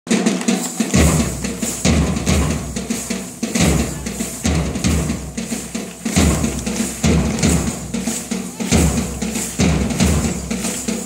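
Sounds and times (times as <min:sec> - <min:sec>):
music with heavy drumming: 0:00.1 - 0:11.0.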